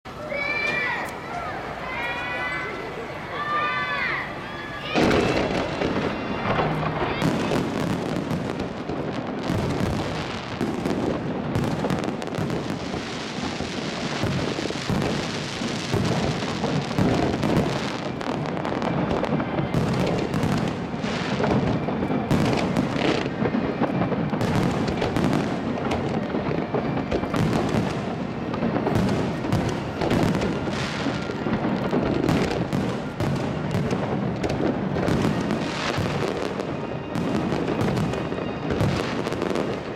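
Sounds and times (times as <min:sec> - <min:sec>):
crackling fountains: 0:00.1 - 0:39.9.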